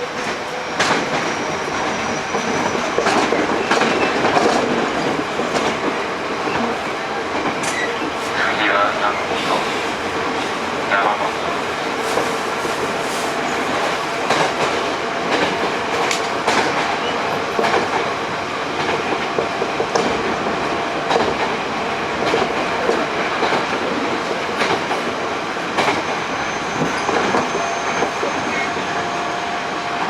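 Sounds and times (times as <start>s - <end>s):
train interior rumble: 0.0s - 30.0s.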